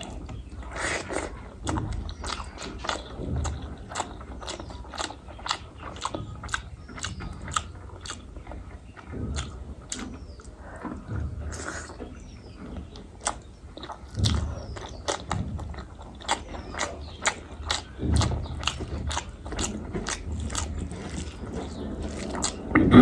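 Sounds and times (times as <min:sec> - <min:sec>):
chewing with wet mouth clicks: 0:00.0 - 0:23.0.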